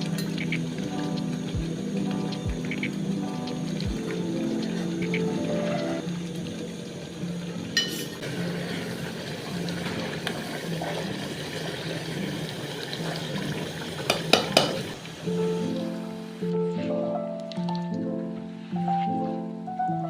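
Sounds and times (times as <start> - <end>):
water pouring: 0.0 - 16.5.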